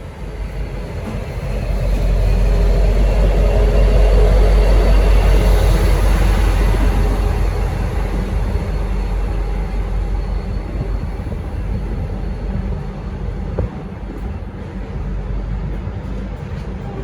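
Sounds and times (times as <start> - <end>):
diesel train rumbling: 0.0 - 17.0.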